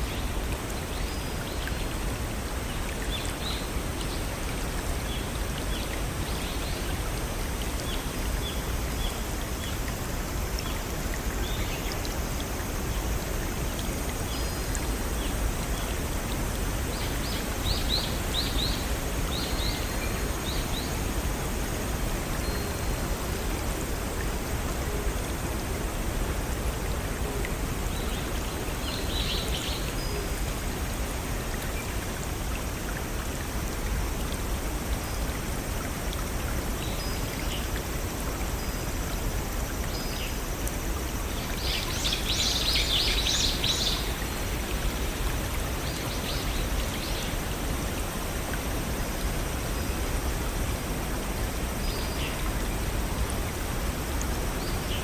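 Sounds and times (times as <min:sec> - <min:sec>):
waterfall and brook running: 0:00.0 - 0:55.0.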